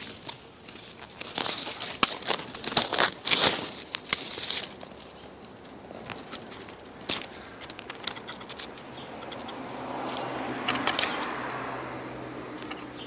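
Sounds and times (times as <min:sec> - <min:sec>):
rustling and clicking twigs: 0:00.0 - 0:13.0.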